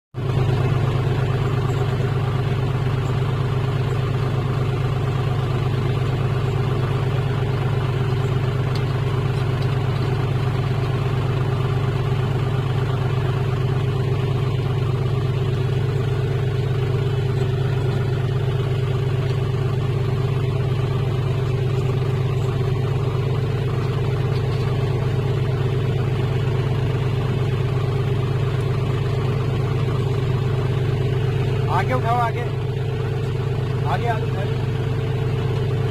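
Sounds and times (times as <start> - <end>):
tractor diesel engine running: 0.2 - 35.9.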